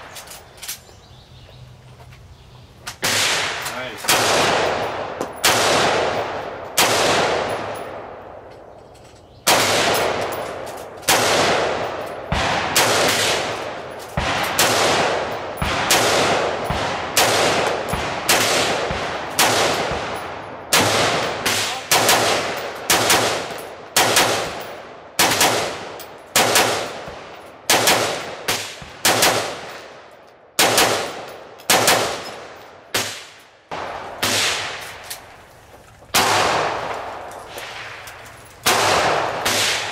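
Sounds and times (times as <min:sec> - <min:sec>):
gunshots with echo: 0:03.0 - 0:08.4, 0:09.4 - 0:30.0, 0:30.6 - 0:34.8, 0:36.1 - 0:39.9.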